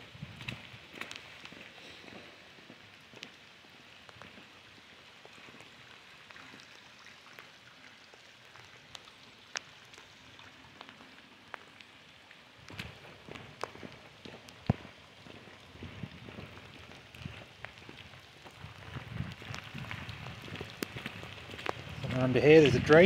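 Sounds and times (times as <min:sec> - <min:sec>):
light rain hissing on wet street: 0:00.0 - 0:23.0
raindrops ticking: 0:00.4 - 0:23.0.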